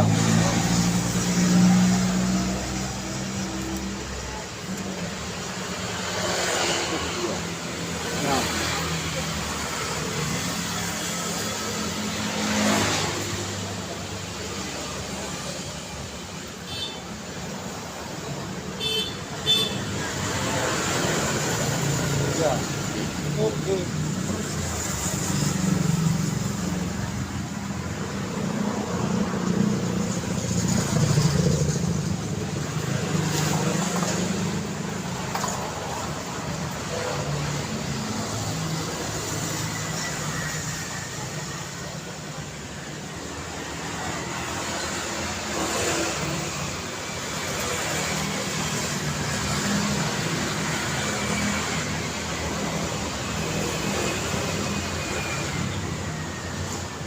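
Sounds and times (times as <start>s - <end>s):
road traffic: 0.0s - 57.0s
vehicles passing: 0.0s - 57.0s.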